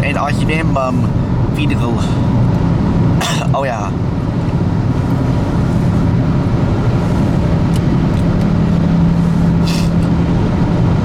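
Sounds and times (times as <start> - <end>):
low engine drone: 0.0 - 11.0
tyre and road noise: 0.0 - 11.0.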